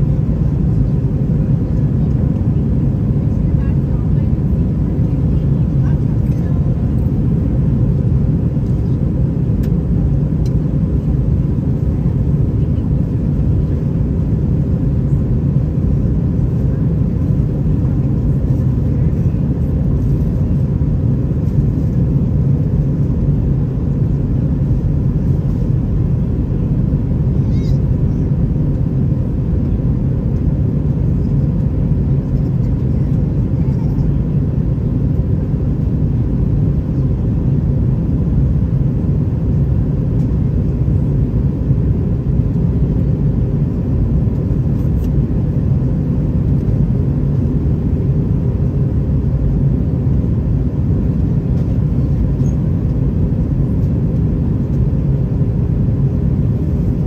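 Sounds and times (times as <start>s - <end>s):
airplane engine and air rumble: 0.0s - 57.0s.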